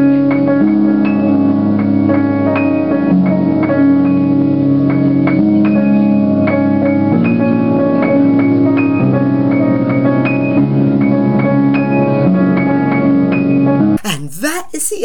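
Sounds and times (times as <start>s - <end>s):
piano playing chords: 0.0s - 14.4s.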